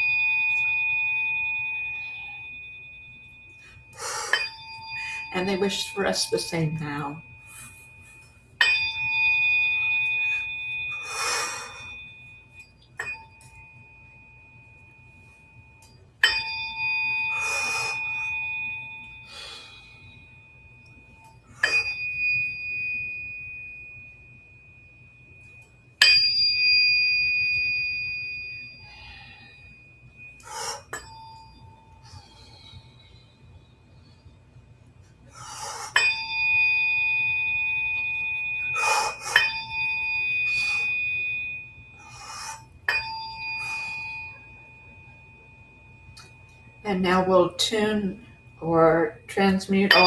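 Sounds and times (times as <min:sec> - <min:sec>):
tuning fork ringing: 0:00.0 - 0:50.0.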